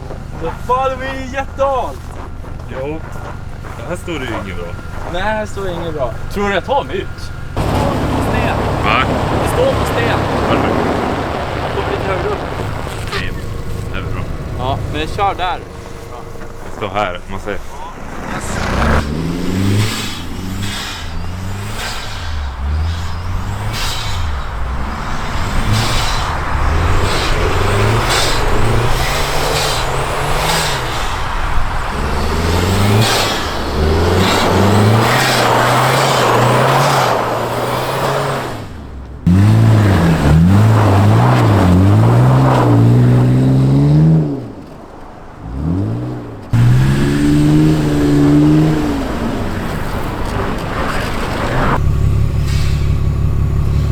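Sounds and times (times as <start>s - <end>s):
car engine revving hard: 0.0s - 53.9s
tyre noise on snow: 0.0s - 53.9s.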